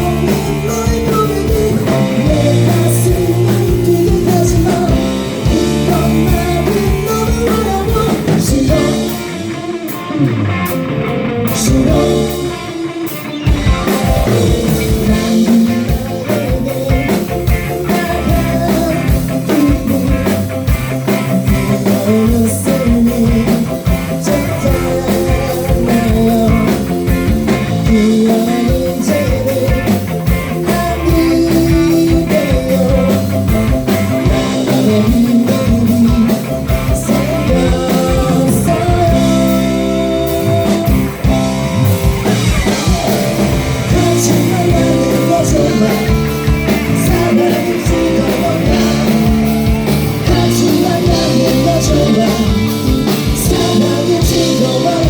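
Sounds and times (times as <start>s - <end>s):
drum kit beat: 0.0s - 55.0s
electric guitar: 0.0s - 55.0s
person singing: 0.0s - 55.0s.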